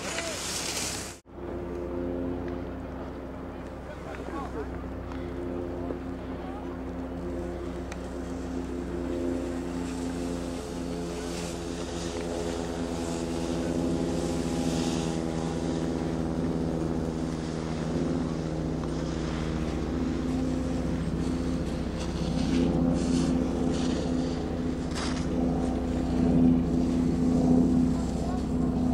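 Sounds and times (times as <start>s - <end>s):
motor droning: 0.0s - 28.9s.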